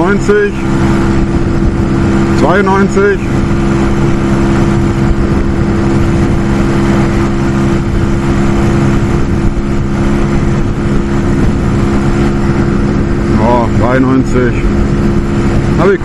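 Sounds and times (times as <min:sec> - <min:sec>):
motorcycle engine at high revs: 0:00.0 - 0:16.0
wind rushing over microphone: 0:00.0 - 0:16.0.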